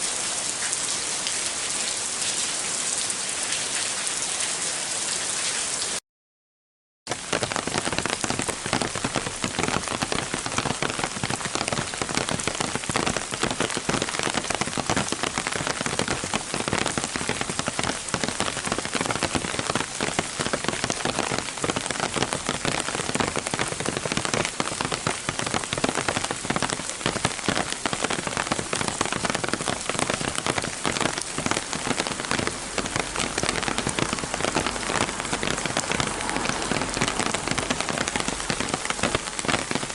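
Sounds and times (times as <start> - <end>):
rain on an umbrella: 0.0 - 6.0, 7.1 - 39.9.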